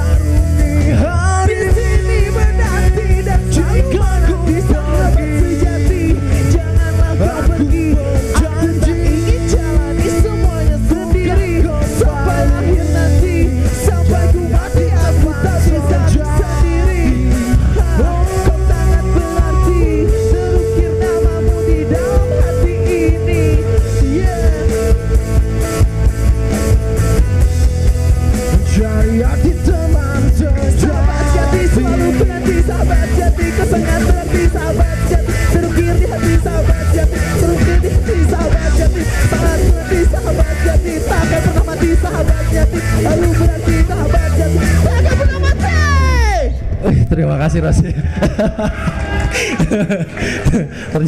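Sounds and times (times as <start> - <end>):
bass: 0.0 - 51.0
drums: 0.0 - 51.0
electric guitar lead line: 0.0 - 51.0.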